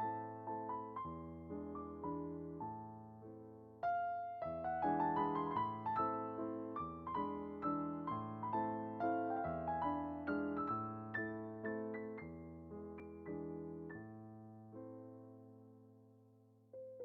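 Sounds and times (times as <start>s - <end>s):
soft piano melody: 0.0s - 17.0s.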